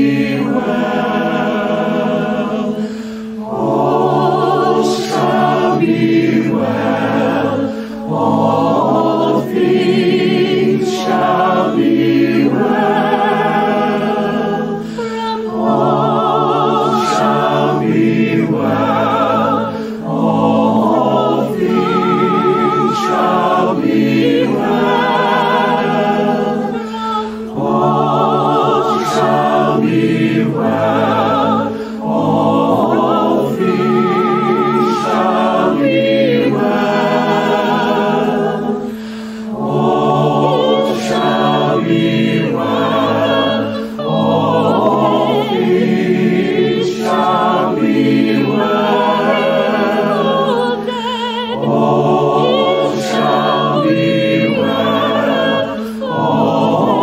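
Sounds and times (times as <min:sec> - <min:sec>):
mixed choir singing: 0:00.0 - 0:57.0
soprano descant with vibrato: 0:00.0 - 0:57.0.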